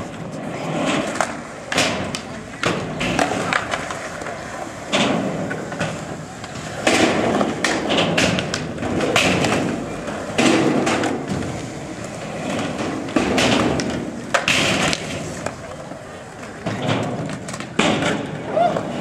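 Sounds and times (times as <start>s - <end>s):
skateboard clacks and thuds: 0.0s - 19.0s
skateboard wheels rolling on concrete: 0.0s - 19.0s.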